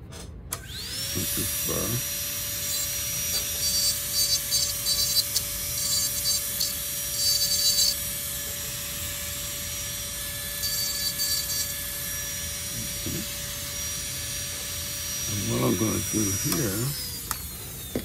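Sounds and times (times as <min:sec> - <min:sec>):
rotary carving tool whining: 0:00.6 - 0:18.0.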